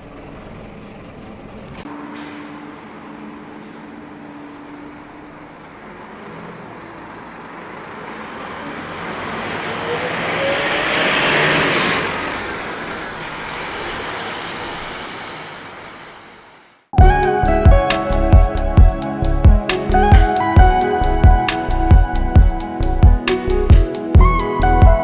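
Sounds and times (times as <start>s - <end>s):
bus driving by: 0.0s - 25.0s.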